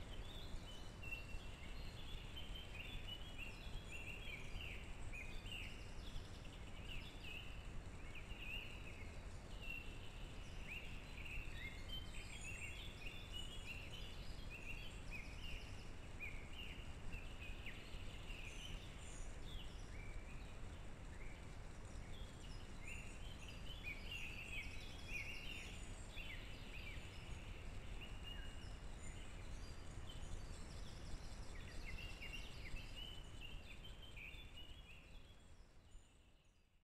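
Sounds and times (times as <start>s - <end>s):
low background noise: 0.0s - 36.8s
small birds chirping: 0.0s - 36.8s.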